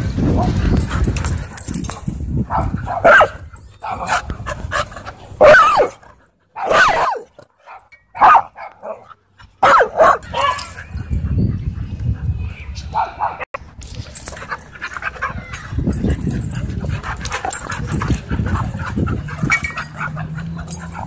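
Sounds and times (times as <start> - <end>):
dogs barking: 0.0 - 11.7, 12.9 - 13.5, 14.5 - 21.0.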